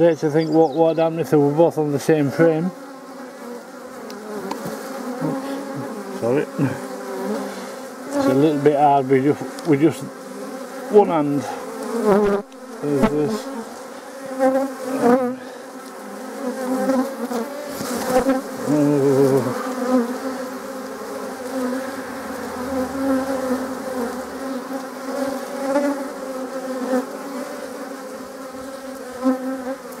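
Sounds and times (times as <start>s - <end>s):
bees humming: 0.0s - 30.0s
single bee buzzing close by: 2.3s - 30.0s.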